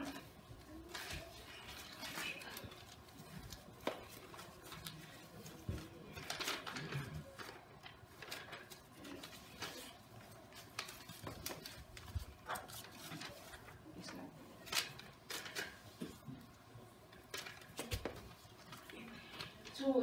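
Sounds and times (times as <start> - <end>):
paper rustling: 0.0 - 20.0.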